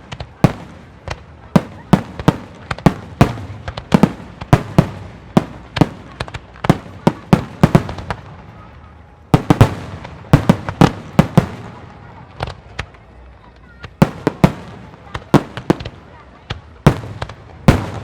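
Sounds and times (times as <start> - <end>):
fireworks bursting with crackle: 0.0 - 18.0.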